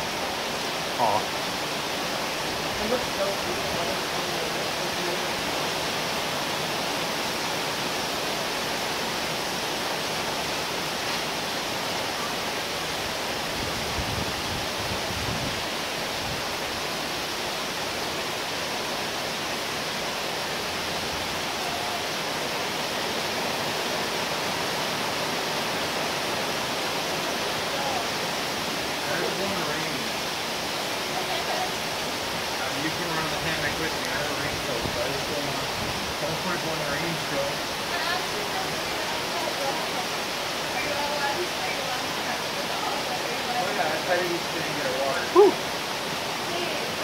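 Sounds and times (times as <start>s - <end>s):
heavy rain hissing: 0.0s - 47.0s.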